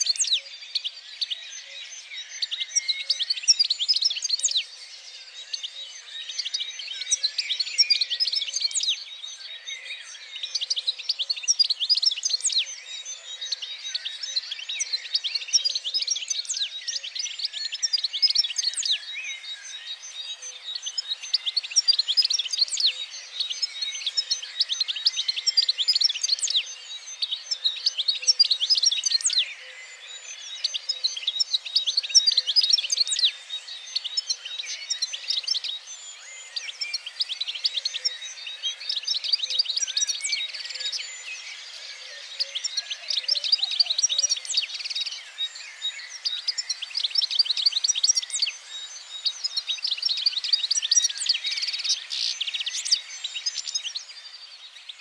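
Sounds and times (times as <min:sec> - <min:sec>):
songbirds twittering: 0:00.0 - 0:55.0.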